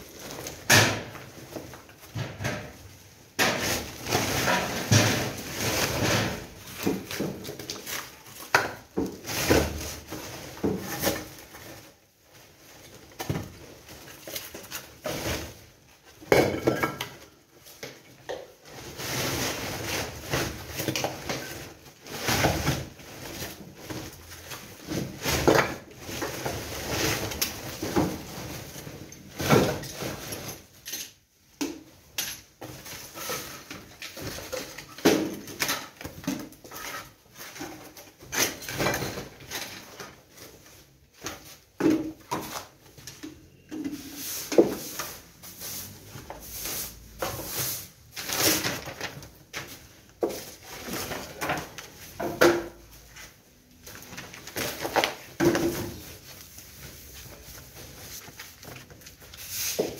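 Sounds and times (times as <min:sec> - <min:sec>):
sacks rustling and scraping: 0:00.0 - 0:16.3, 0:17.1 - 0:30.8, 0:32.5 - 0:59.9
rubble loaded into plastic sacks: 0:00.0 - 0:59.9.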